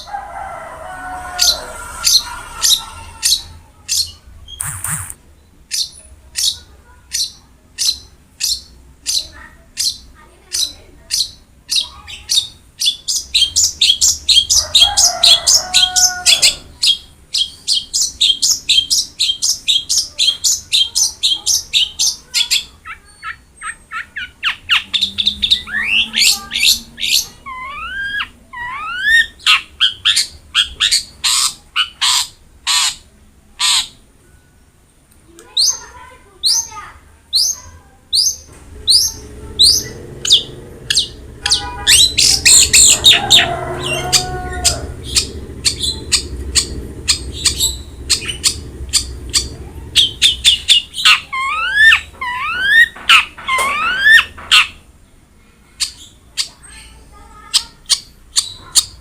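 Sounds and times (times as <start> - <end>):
bird chirping: 1.2 - 34.6, 35.4 - 54.8.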